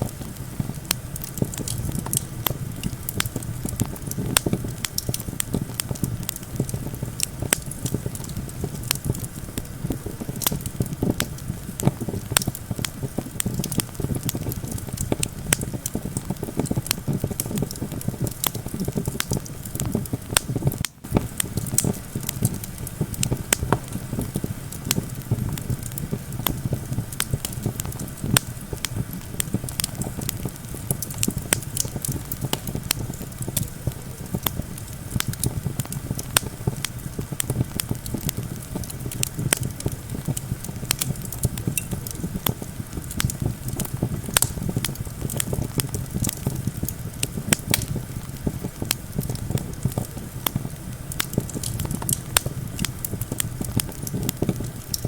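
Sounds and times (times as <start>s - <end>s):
campfire crackling and popping: 0.0s - 55.0s
low wind rumble: 0.0s - 55.0s.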